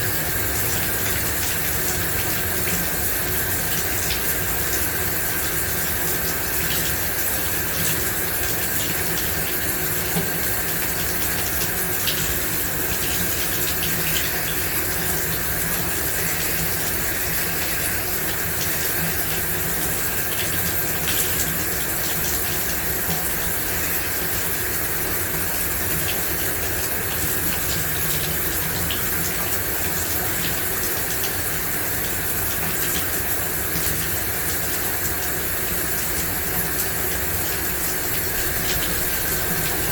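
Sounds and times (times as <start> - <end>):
shower water spraying: 0.0 - 39.9
water drips: 0.0 - 39.9.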